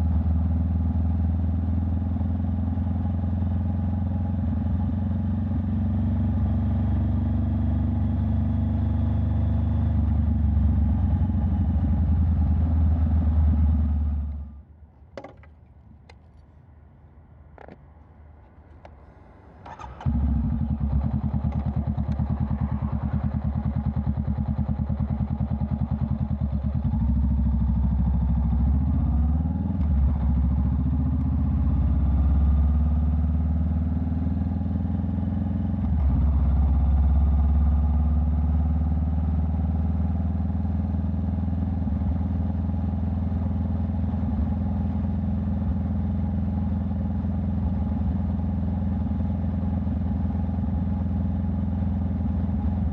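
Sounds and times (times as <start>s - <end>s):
motorcycle engine running: 0.0s - 14.6s, 19.6s - 52.9s.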